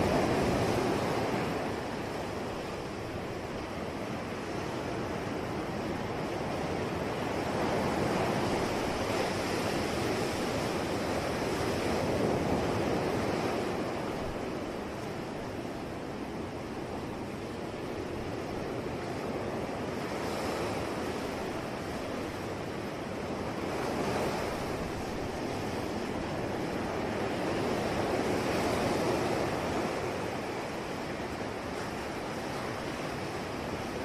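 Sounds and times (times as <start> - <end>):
sea waves washing on shore: 0.0 - 34.0
wind: 0.0 - 34.0.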